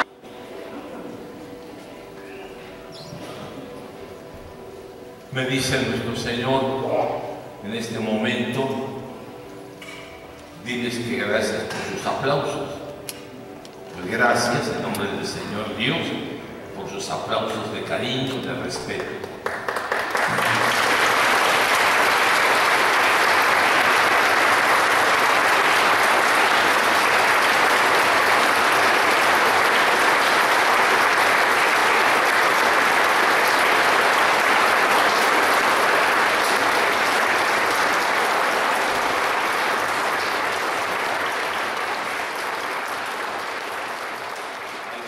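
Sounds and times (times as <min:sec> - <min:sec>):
congregation applauding: 0:00.0 - 0:45.0.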